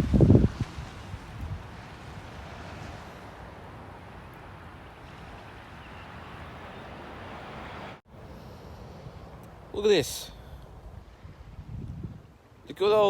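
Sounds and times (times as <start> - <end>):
wind buffeting microphone: 0.0 - 12.7.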